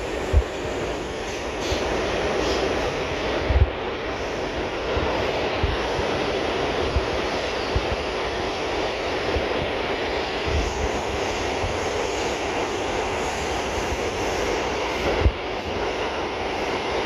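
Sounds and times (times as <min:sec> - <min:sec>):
subway car rumble: 0:00.0 - 0:17.0.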